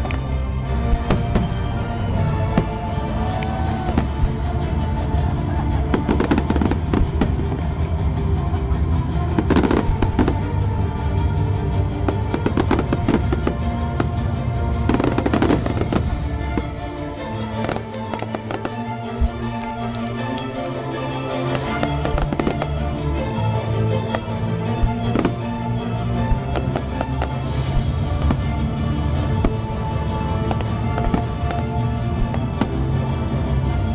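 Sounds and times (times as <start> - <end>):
fireworks bursting and crackling: 0.0 - 33.9
music soundtrack: 0.0 - 33.9.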